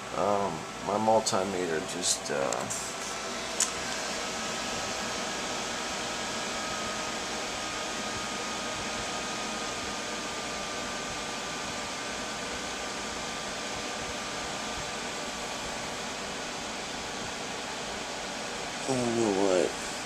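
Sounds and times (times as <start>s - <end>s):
computer fans whirring: 0.0s - 20.0s.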